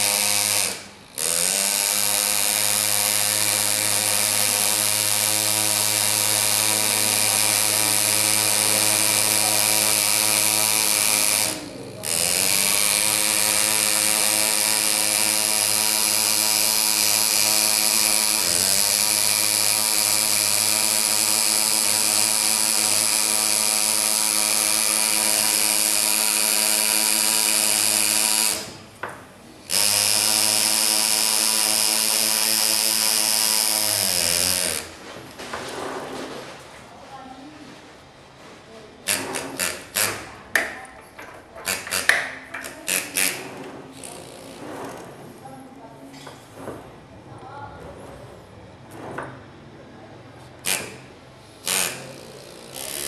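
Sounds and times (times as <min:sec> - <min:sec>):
pneumatic engraver buzzing: 0:00.0 - 0:35.1, 0:39.0 - 0:45.4, 0:50.5 - 0:53.0.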